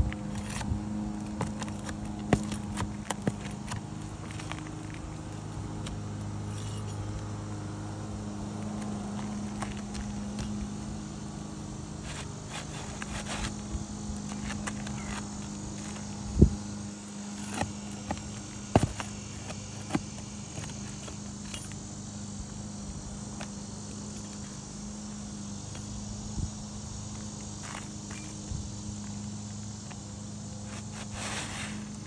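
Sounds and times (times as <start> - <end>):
high insect buzz: 0.0 - 32.0
steady low hum: 0.0 - 32.0.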